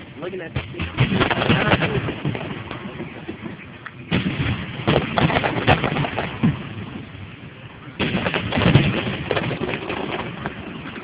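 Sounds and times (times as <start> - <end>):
fireworks booming and crackling: 0.0 - 11.0.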